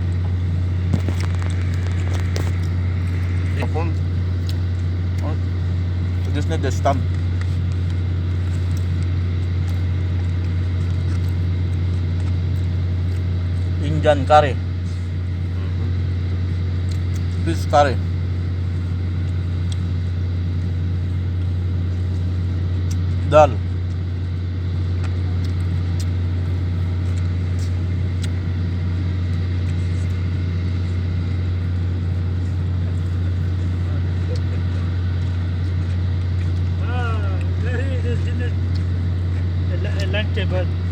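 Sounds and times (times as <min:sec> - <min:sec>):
machinery droning: 0:00.0 - 0:40.9.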